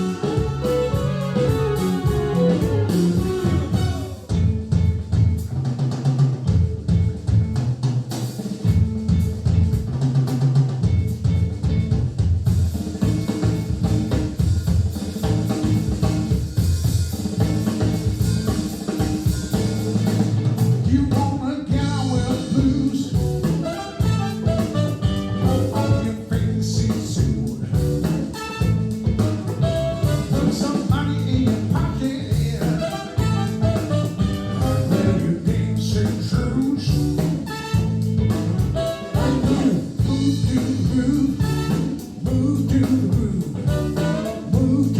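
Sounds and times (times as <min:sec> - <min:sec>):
jazz music over speakers: 0:00.0 - 0:05.8, 0:08.4 - 0:12.0, 0:12.7 - 0:44.9.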